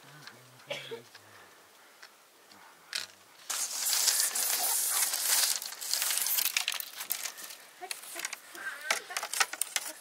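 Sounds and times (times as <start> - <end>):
bamboo strips rustling and clicking: 0.0 - 10.0.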